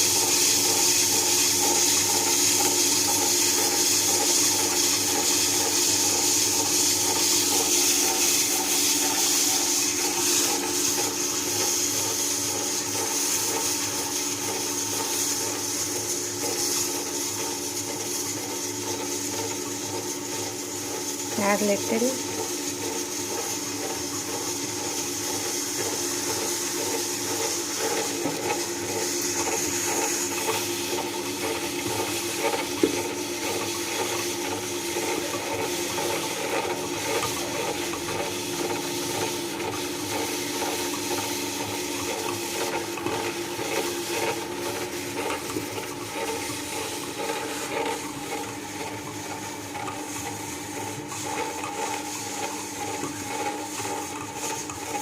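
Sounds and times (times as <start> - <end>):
dough churning: 0.0 - 55.0
mixer grinder motor hum: 0.0 - 55.0.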